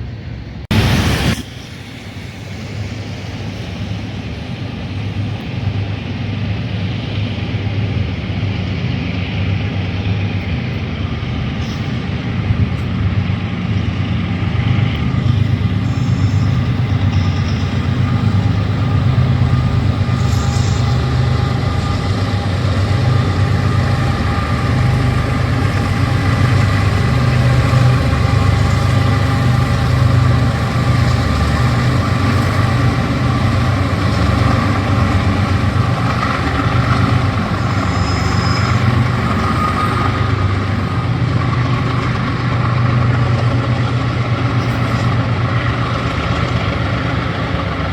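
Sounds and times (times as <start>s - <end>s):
diesel locomotive engine drone: 0.0s - 47.9s
steady whine: 0.0s - 47.9s.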